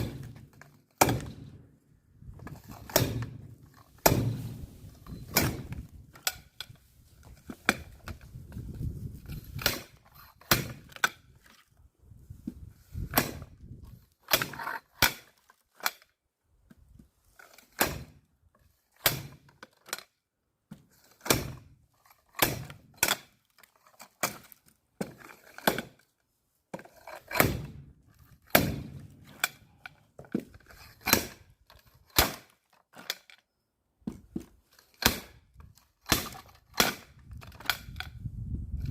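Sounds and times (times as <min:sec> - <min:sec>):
axe chopping firewood: 0:00.0 - 0:11.3, 0:12.5 - 0:16.0, 0:17.5 - 0:18.2, 0:19.0 - 0:19.6, 0:20.7 - 0:23.4, 0:24.2 - 0:26.1, 0:26.7 - 0:33.2, 0:34.0 - 0:38.0.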